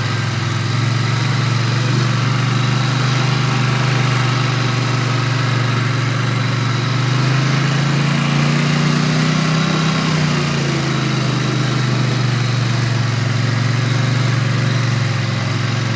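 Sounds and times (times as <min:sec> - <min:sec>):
atv engine running: 0:00.0 - 0:15.9.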